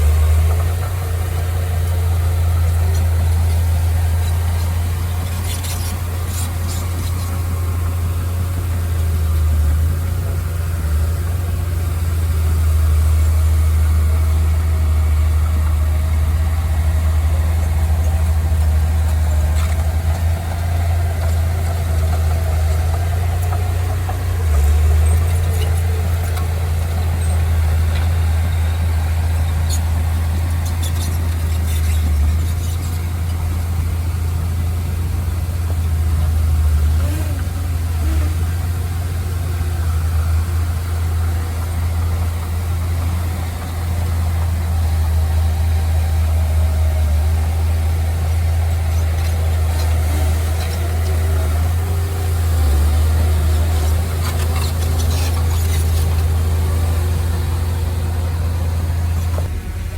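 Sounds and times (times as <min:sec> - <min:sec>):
heavy machinery engine rumbling: 0:00.0 - 0:59.9.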